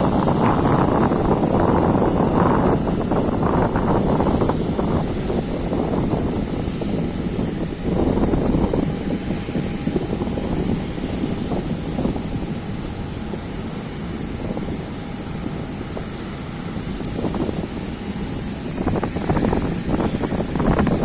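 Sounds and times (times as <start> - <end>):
aircraft engines rumbling: 0.0 - 21.0
faint steady whine: 0.0 - 21.0
wind buffeting microphone: 0.0 - 21.0.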